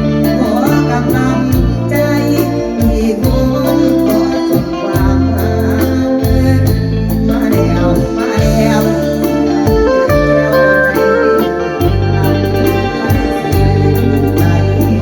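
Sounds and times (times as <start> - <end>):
held bass notes: 0.0 - 15.0
organ-like melody: 0.0 - 15.0
steady drum beat: 0.0 - 15.0.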